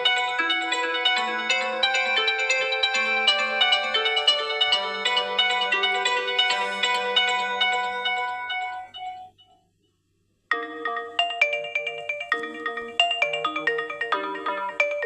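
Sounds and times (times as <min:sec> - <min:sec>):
chiming phone ringtone melody: 0:00.0 - 0:09.6, 0:10.5 - 0:15.0
quick ringtone melody: 0:00.0 - 0:09.6, 0:10.5 - 0:15.0.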